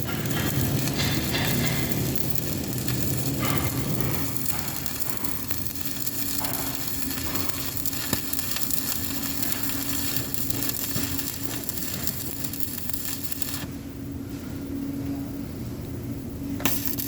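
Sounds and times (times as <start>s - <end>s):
welding arc crackling: 0.0s - 13.7s, 16.6s - 17.0s.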